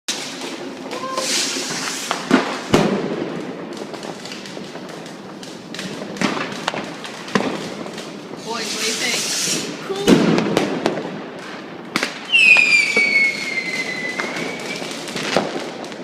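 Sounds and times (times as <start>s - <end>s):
firecrackers crackling: 0.1s - 16.0s
loud firework bangs: 0.1s - 16.0s.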